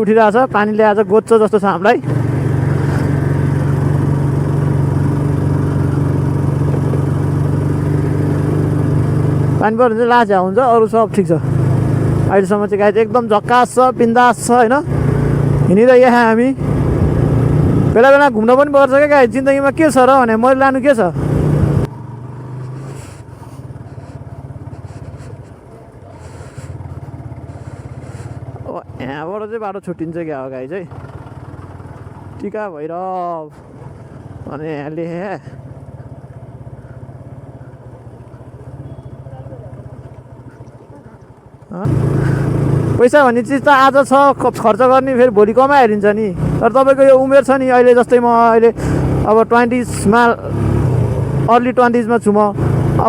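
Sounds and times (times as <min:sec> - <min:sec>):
motorcycle engine cruising: 0:00.0 - 0:32.6, 0:33.2 - 0:53.0.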